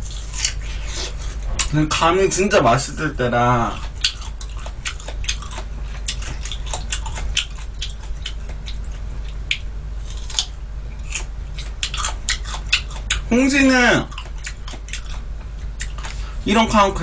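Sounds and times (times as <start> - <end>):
crunching and chewing fruit: 0.0 - 17.0
faint low hum: 0.0 - 17.0.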